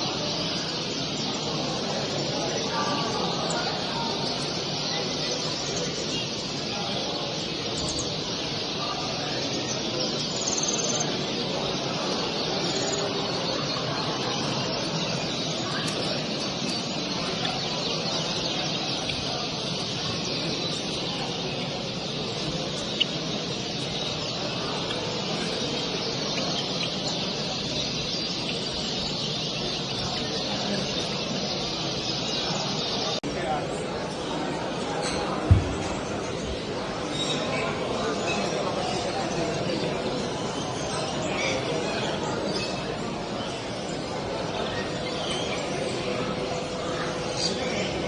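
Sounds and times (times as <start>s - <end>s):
murmur of crowd talking: 0.0s - 48.0s
songbirds chirping and trilling: 0.0s - 48.0s.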